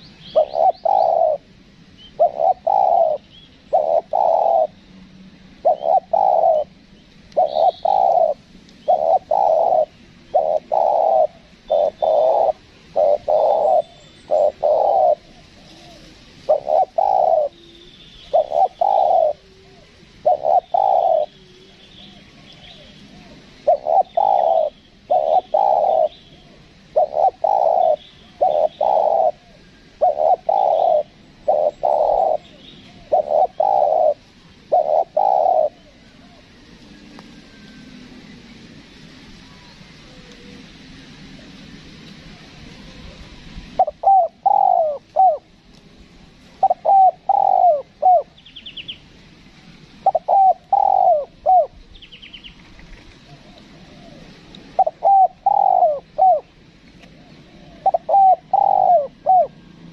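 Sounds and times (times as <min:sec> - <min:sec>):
dove cooing: 0:00.0 - 0:04.8, 0:05.6 - 0:38.2, 0:39.4 - 0:45.7, 0:46.4 - 0:48.9, 0:50.0 - 0:59.9.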